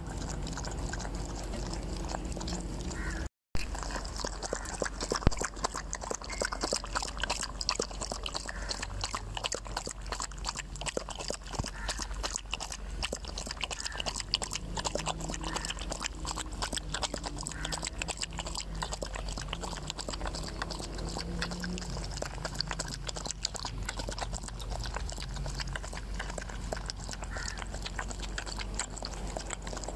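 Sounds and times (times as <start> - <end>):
dog lapping water: 0.0 - 29.9.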